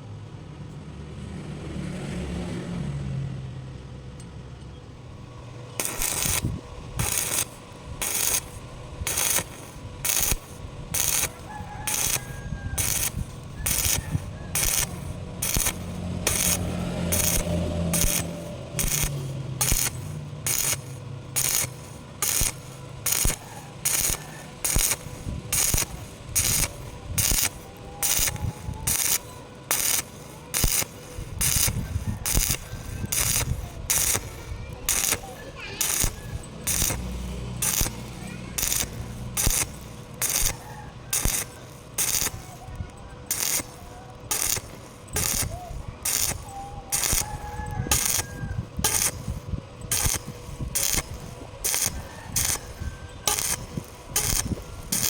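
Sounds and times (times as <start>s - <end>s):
welding arc crackling: 5.0s - 55.0s.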